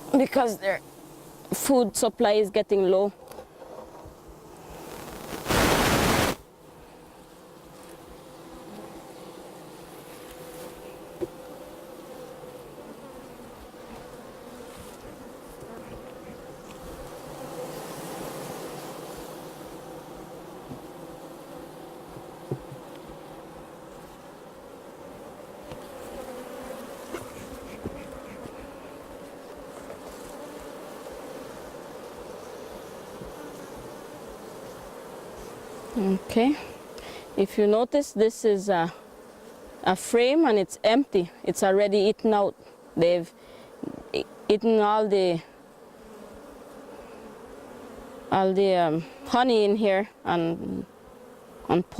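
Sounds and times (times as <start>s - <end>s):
honeybees buzzing: 0.0s - 51.9s.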